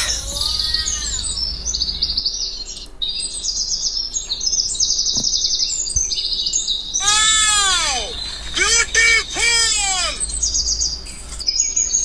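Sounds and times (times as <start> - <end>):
small birds chirping buzzy trills: 0.0 - 12.0.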